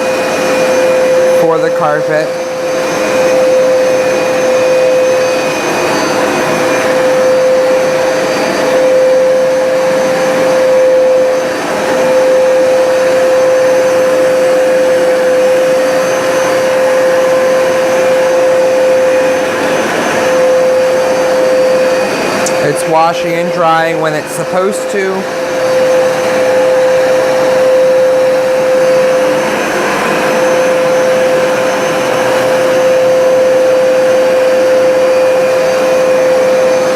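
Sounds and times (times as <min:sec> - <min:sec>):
carpet cleaner motor whine: 0:00.0 - 0:36.9.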